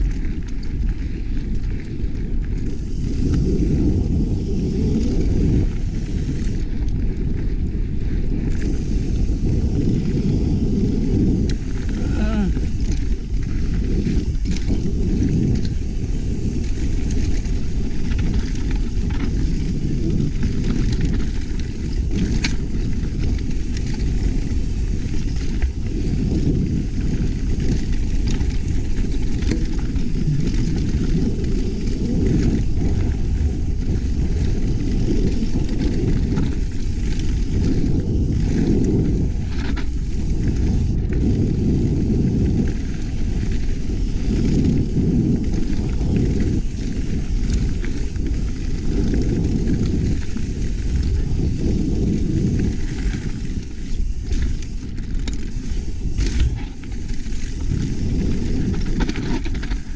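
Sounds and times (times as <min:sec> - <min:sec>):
bike clicks and knocks: 0:00.0 - 0:59.9
wind and trail rumble: 0:00.0 - 0:59.9.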